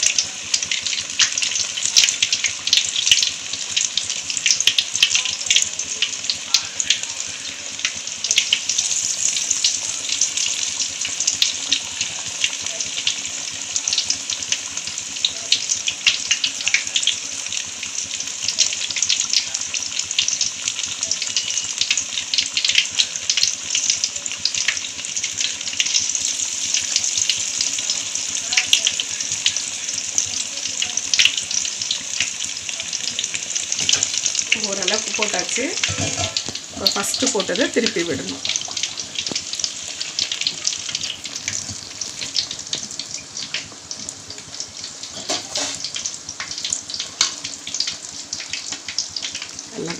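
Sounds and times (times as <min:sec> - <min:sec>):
batter deep-frying in oil: 0:00.0 - 0:49.9.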